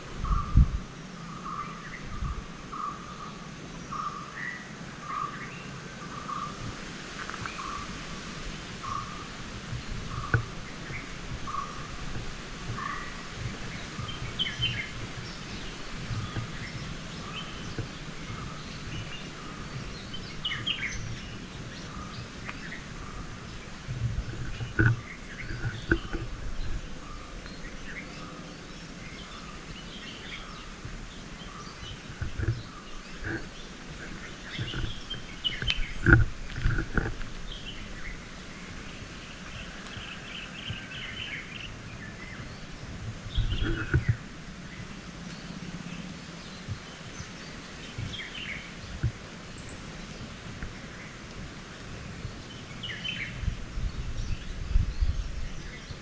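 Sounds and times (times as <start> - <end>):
birds chirping: 0.0 - 56.0
low uneven rumble: 0.0 - 56.0.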